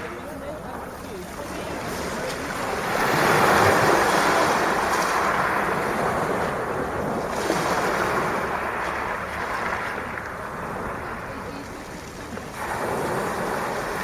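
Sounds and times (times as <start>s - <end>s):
sea waves breaking on shingle: 0.0s - 14.0s.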